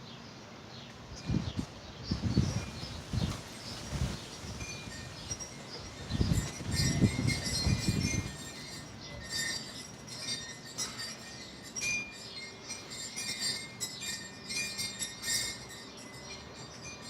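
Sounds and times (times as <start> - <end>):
high-pitched tinkling and clinking: 2.5 - 17.0.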